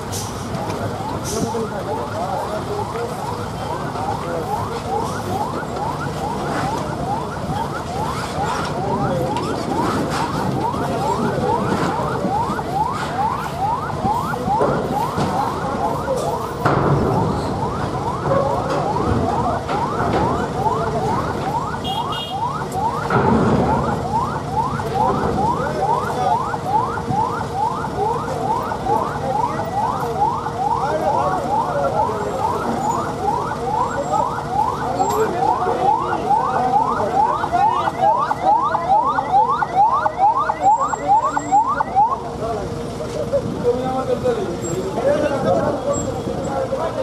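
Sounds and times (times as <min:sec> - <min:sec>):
engines running: 0:00.0 - 0:47.0
electronic siren chirping: 0:01.0 - 0:42.3.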